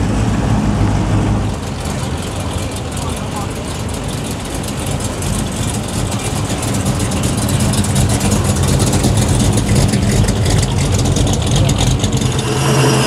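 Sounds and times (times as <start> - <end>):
car engine burbling passing by: 0.0 - 13.0.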